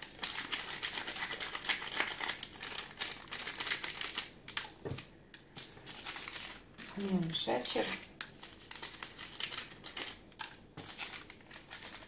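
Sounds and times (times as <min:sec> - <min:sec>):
paper sachet crinkling: 0:00.0 - 0:04.8, 0:05.5 - 0:12.0.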